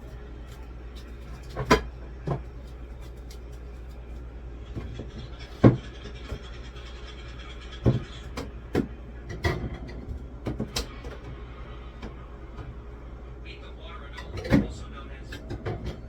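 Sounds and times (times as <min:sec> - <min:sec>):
objects clunking and knocking: 0:00.0 - 0:03.6, 0:04.7 - 0:12.8, 0:14.1 - 0:16.0
steady low hum: 0:00.0 - 0:16.0.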